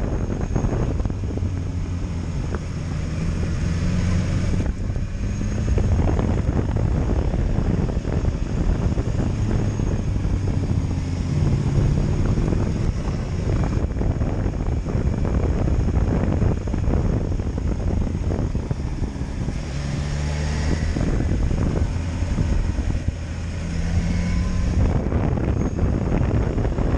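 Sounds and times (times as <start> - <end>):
motorcycle engine running: 0.0 - 26.9
wind buffeting on microphone: 0.0 - 26.9.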